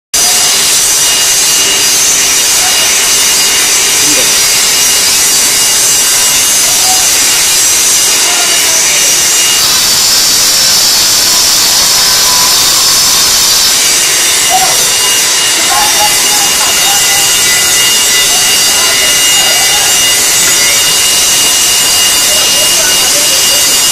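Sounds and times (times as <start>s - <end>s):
stone saw grinding whine: 0.2s - 23.9s.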